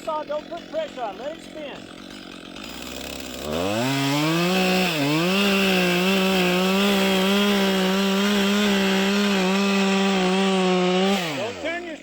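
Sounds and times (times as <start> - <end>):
chainsaw revving and cutting: 0.0 - 12.0.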